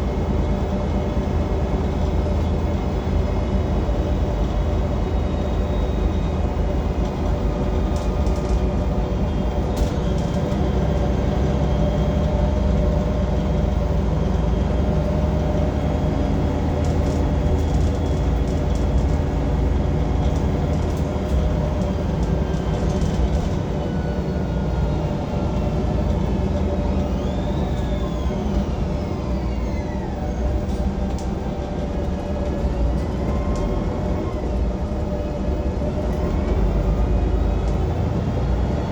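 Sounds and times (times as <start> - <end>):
bus engine rumbling: 0.0 - 38.9.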